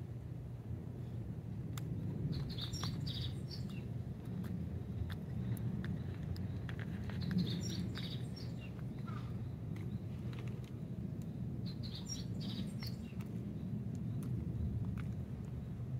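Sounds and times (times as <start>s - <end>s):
low background rumble: 0.0s - 15.9s
small birds chirping: 2.2s - 15.9s.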